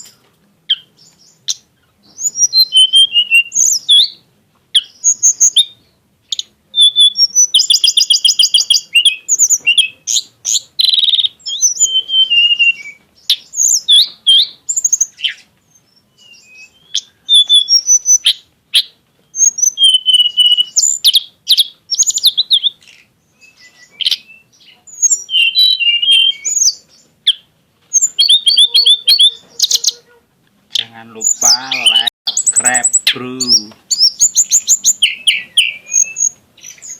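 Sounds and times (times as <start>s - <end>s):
songbird singing chirps and trills: 0.0s - 36.9s.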